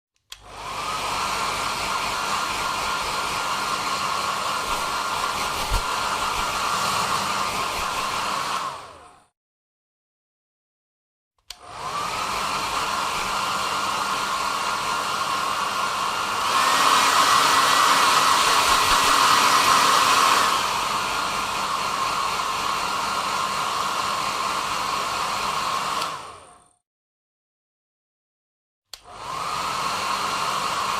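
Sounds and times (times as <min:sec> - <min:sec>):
hair dryer blowing: 0:00.3 - 0:09.4, 0:11.4 - 0:26.8, 0:28.9 - 0:30.9.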